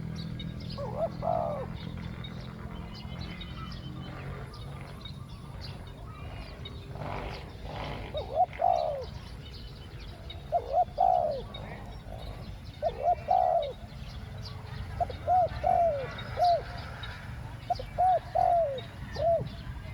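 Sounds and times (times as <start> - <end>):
dove cooing: 0.0 - 2.3, 3.6 - 9.6, 10.2 - 19.9
small birds chirping: 0.0 - 19.9.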